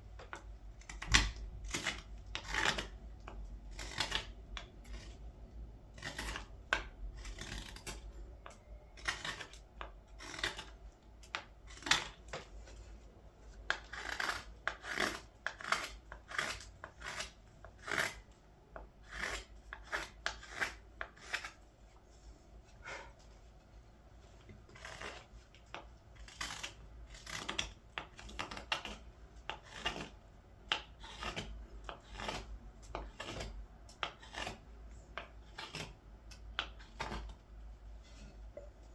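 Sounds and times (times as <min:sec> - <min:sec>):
knife shaving green wood: 0:00.2 - 0:23.2, 0:24.3 - 0:38.4.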